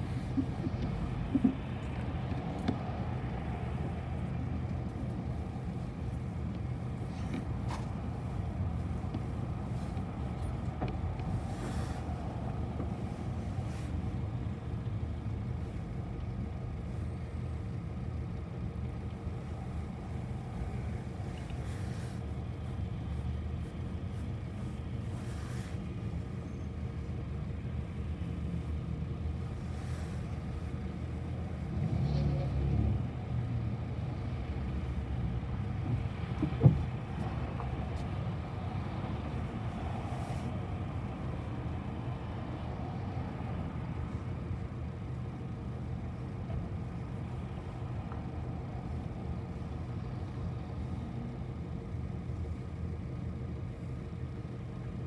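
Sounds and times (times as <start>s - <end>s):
bus engine and road rumble: 0.0s - 55.0s
faint constant hum: 0.0s - 55.0s.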